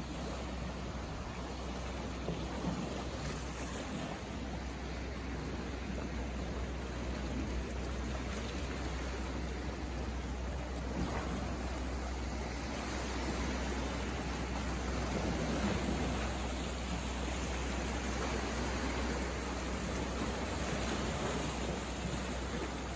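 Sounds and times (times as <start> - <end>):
sea water washing around rocks: 0.0 - 22.9.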